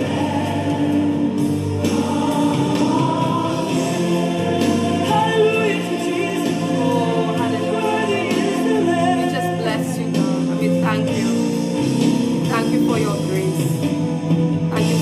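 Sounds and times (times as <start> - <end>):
choir singing gospel music: 0.0 - 15.0.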